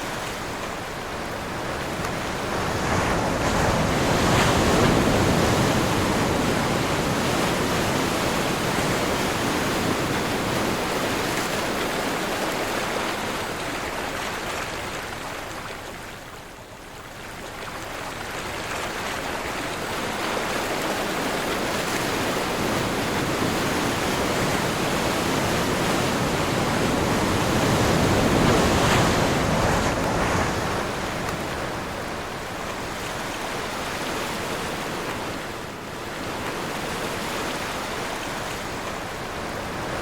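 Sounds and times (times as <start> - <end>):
ocean waves breaking: 0.0 - 15.7, 17.9 - 40.0
wind: 0.0 - 40.0.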